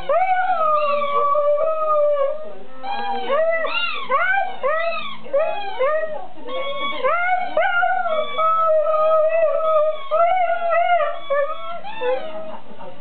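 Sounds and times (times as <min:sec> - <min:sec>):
dog howling: 0:00.0 - 0:12.6.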